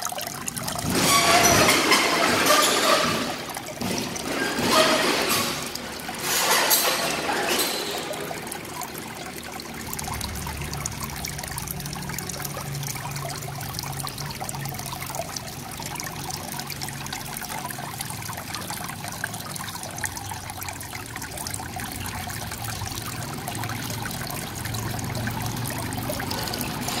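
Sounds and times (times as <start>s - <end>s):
aquarium water trickling and bubbling: 0.0s - 27.0s.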